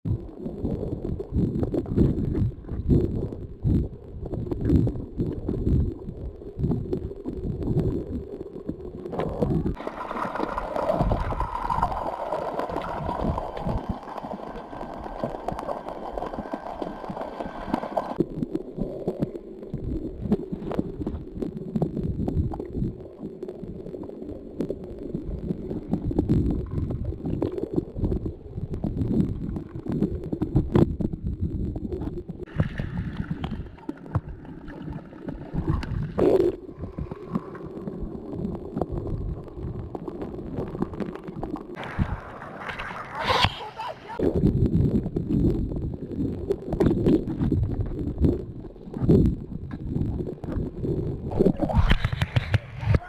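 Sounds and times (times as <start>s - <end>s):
water sloshing and gurgling: 0.1s - 53.0s.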